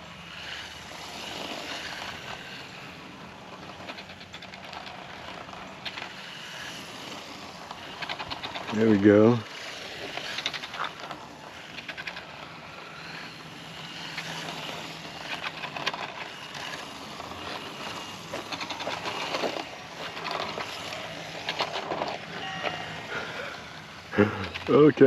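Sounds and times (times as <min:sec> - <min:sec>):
rc motorcycle running: 0:00.0 - 0:25.0
small clicks and rattles: 0:00.0 - 0:25.0
tyres and belt drive rolling: 0:00.0 - 0:25.0.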